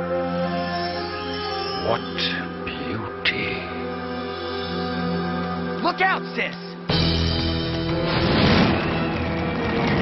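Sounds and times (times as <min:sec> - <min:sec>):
dramatic cartoon music: 0:00.0 - 0:10.0.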